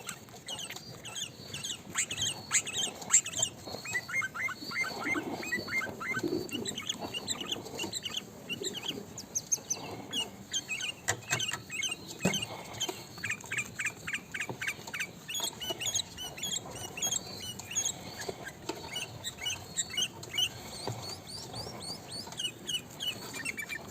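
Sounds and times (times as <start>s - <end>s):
bulbul chirping: 0.0s - 23.9s.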